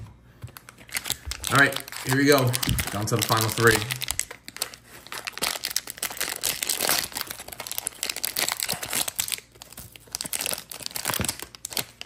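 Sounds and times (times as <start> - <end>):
plastic wrapper tearing and crinkling: 0.6 - 12.0.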